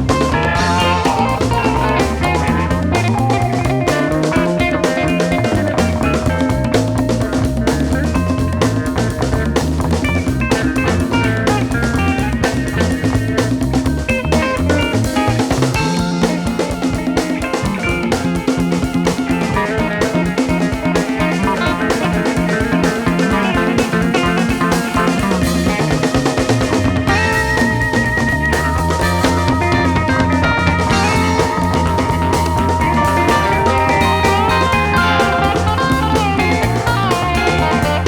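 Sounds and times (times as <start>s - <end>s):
bass guitar: 0.0s - 38.0s
drum kit beat: 0.0s - 38.0s
electric guitar: 0.0s - 38.0s.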